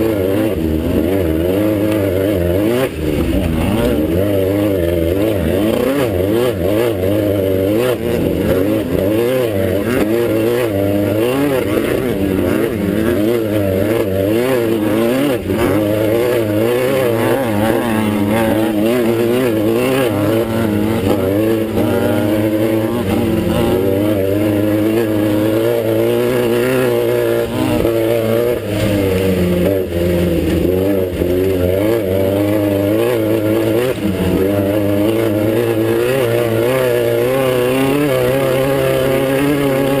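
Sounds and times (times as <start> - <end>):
race buggy engine revving: 0.0 - 40.0.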